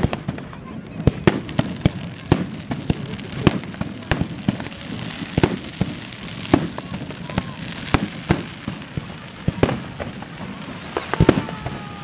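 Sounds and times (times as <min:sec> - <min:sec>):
fireworks bursting with sharp bangs: 0:00.0 - 0:12.0
fireworks crackling: 0:00.0 - 0:12.0.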